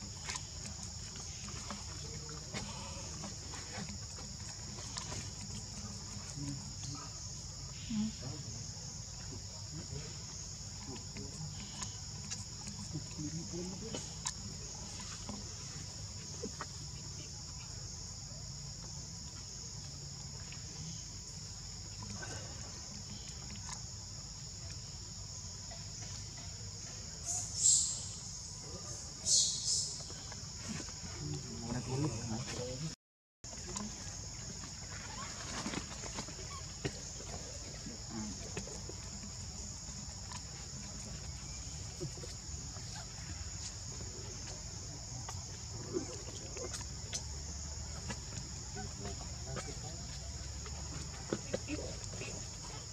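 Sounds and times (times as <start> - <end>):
insects chorus: 0.0 - 52.9.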